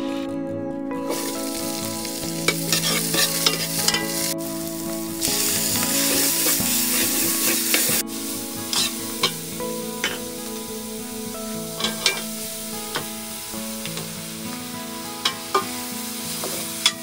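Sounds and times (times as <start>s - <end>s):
aromatics sizzling in hot oil: 1.0s - 17.0s.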